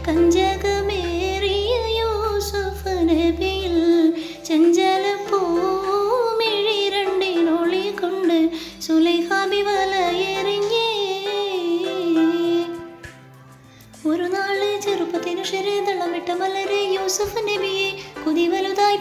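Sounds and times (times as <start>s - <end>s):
woman singing slow melody: 0.0s - 13.0s, 14.0s - 19.0s.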